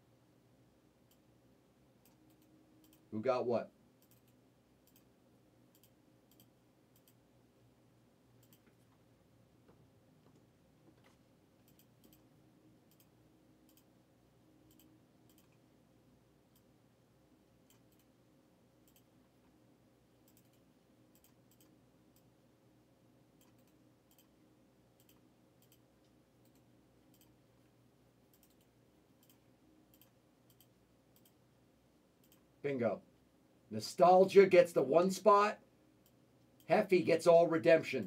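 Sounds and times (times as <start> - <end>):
low room hum: 0.0 - 38.0.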